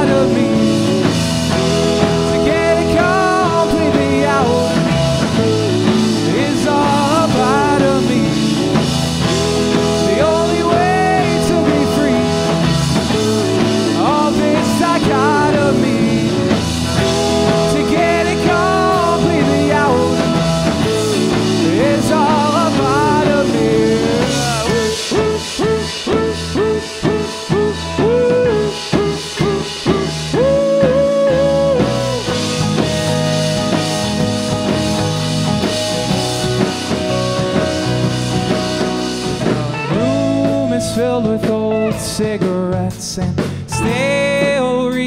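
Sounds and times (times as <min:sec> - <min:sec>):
rock band playing instrumental: 0:00.0 - 0:45.0.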